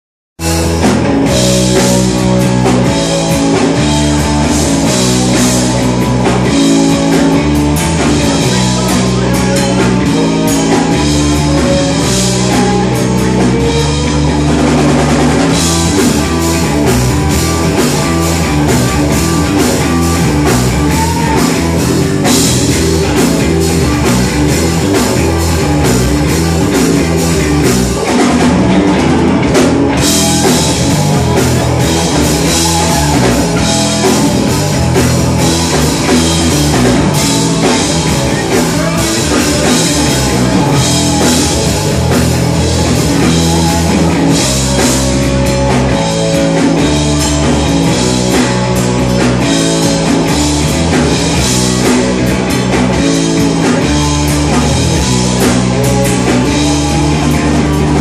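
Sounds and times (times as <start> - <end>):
drum kit: 0.4 - 58.0
electric guitars: 0.4 - 58.0.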